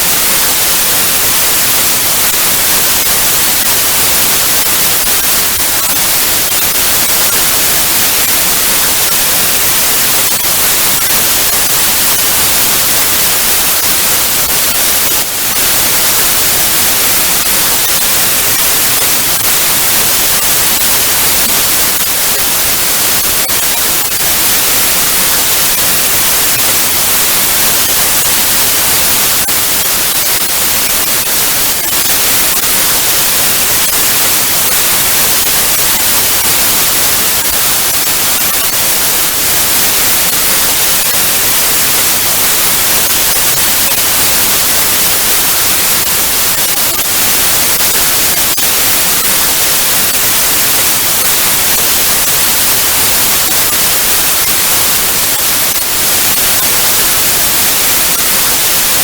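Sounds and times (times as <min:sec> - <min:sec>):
tv static hiss: 0:00.0 - 0:59.0.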